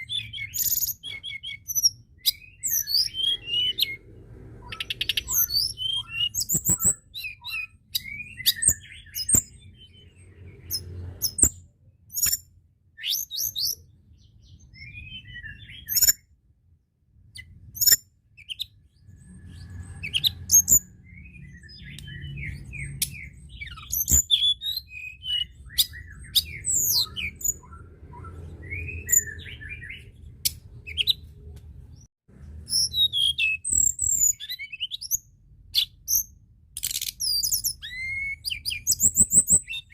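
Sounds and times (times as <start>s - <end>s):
bird singing chirps and trills: 0.0s - 16.5s, 17.2s - 39.9s.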